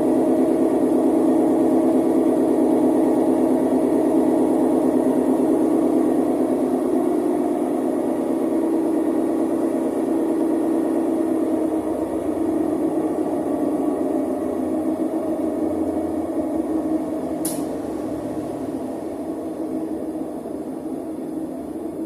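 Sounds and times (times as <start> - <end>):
washing machine spin cycle hum: 0.0 - 22.0.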